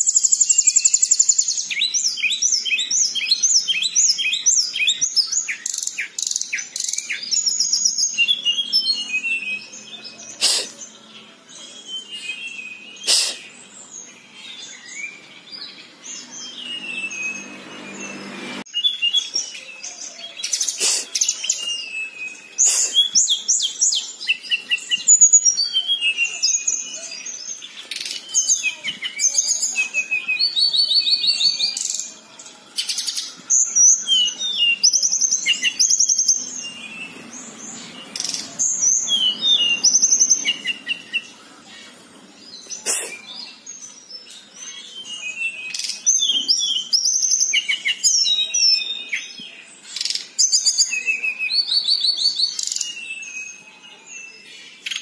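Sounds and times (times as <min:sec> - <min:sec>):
songbird singing trilled phrases: 0:00.0 - 0:55.0.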